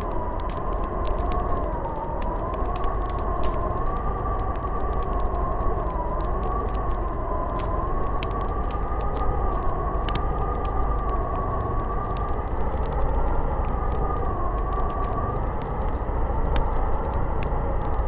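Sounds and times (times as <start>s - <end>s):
howling snowstorm wind: 0.0s - 18.0s.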